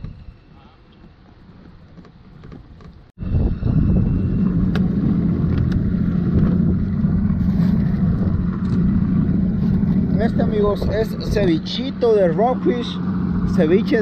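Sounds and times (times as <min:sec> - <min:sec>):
wind on microphone: 0:00.0 - 0:01.0, 0:01.6 - 0:11.9
outboard motor running: 0:00.0 - 0:14.0.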